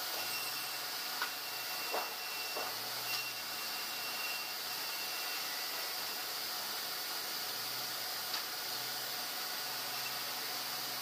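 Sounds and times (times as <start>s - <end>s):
faint high whine: 0.0s - 7.6s, 8.8s - 11.0s.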